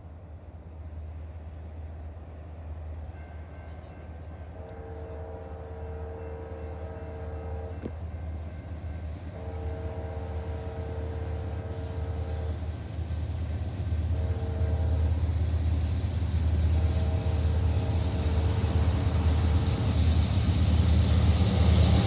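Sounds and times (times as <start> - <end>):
low train rumble: 0.0 - 22.0
diesel locomotive horn blasts: 3.1 - 22.0.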